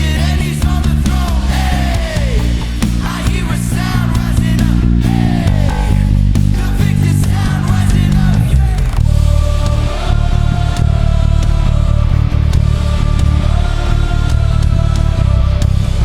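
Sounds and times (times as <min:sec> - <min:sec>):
bass guitar low notes: 0:00.0 - 0:16.0
rock band music: 0:00.0 - 0:16.0.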